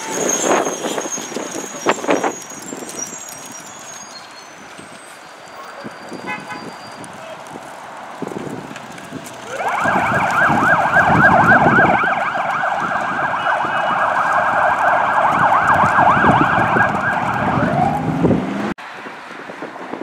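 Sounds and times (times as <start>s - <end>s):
fire engine siren yelping: 0.0s - 7.7s, 8.4s - 18.8s
road traffic: 0.0s - 20.0s
truck engine rumble: 0.0s - 20.0s.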